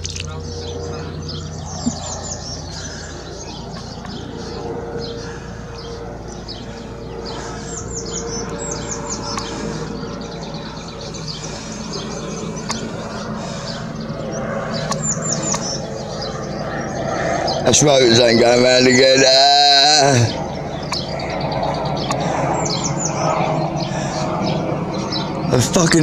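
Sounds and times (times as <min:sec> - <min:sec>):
helicopter drone overhead: 0:00.0 - 0:26.0
small birds chirping: 0:00.0 - 0:26.0.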